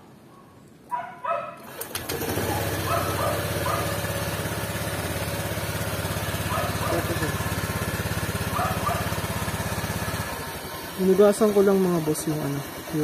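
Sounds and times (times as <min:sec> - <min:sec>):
scooter engine starting and idling: 0:01.6 - 0:13.0.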